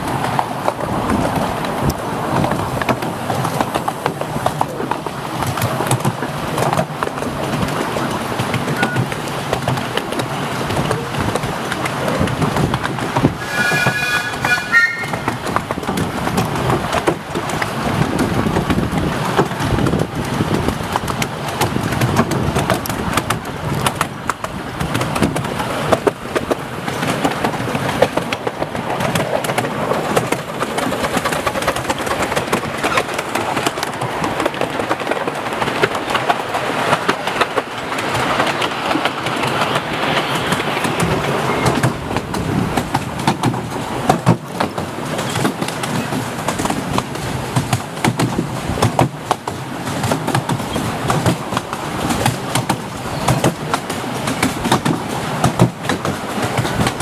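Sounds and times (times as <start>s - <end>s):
miniature train running rumble: 0.0s - 57.0s
wheels clicking over rail joints: 0.0s - 57.0s.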